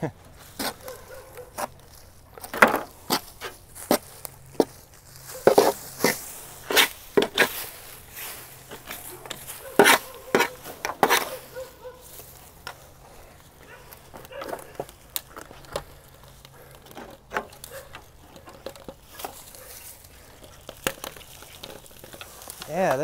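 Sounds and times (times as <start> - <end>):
metal crackling and scraping in dirt: 0.0 - 23.0.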